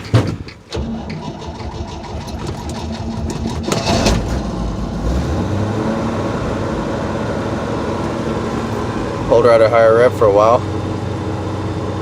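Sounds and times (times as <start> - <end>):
car engine running rough: 0.8 - 12.0.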